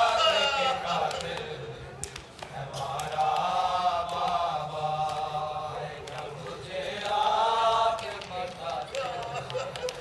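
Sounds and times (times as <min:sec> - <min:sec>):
men chanting a lament: 0:00.0 - 0:10.0.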